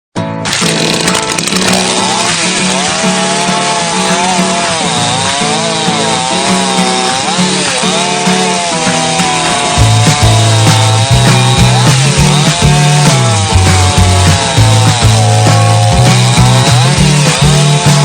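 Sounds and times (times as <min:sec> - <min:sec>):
chainsaw cutting wood: 0:00.4 - 0:18.0.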